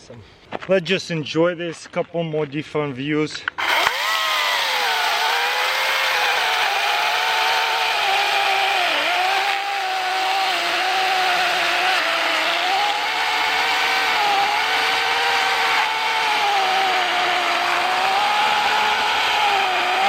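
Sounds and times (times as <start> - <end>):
chainsaw cutting log: 3.5 - 20.0.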